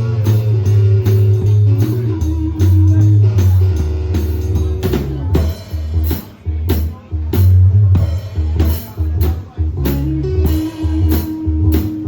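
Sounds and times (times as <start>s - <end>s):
bass line: 0.0s - 12.0s
drum kit kick and cymbal: 0.0s - 12.0s
guitar: 0.0s - 12.0s
live blues band playing: 0.0s - 12.0s.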